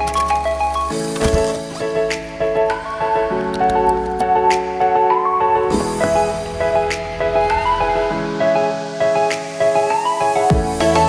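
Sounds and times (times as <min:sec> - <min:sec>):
melodic background music: 0:00.0 - 0:11.0.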